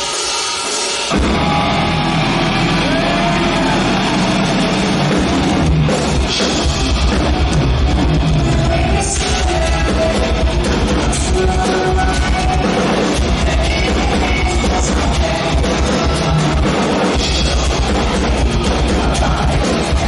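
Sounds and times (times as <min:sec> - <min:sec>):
live metal band playing: 0:00.0 - 0:20.0.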